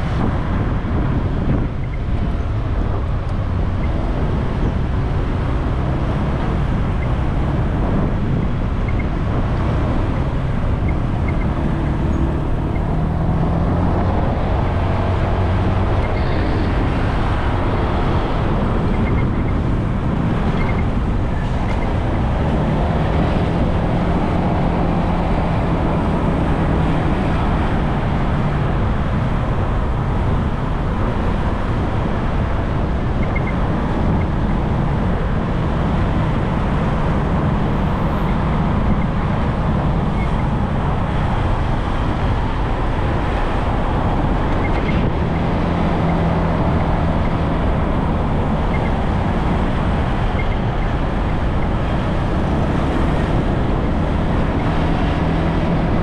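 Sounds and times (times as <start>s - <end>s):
engine hum of vehicles: 0.0s - 56.0s
wind and road noise: 0.0s - 56.0s.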